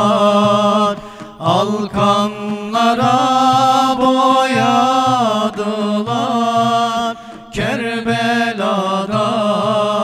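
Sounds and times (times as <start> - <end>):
frame drums beating: 0.0 - 8.5
men singing a hymn: 0.0 - 10.0.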